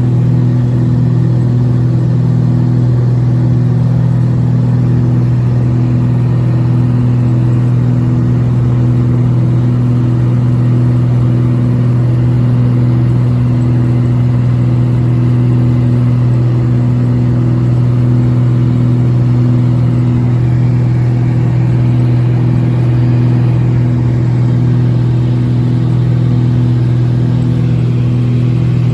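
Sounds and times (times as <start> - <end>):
plane engines droning in cabin: 0.0 - 28.9.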